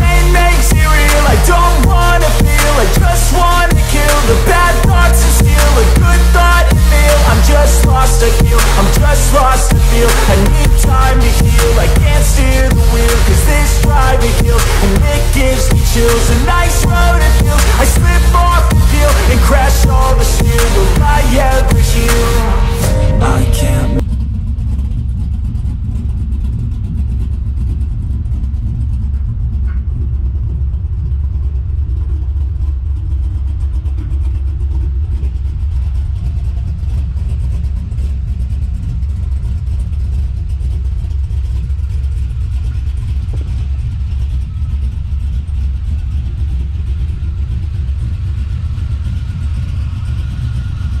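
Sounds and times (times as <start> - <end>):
engine idling with deep rumble: 0.0 - 51.0.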